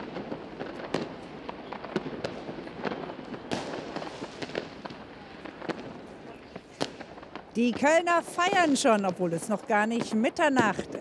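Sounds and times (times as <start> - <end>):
firecracker bangs and cracks: 0.0 - 9.3.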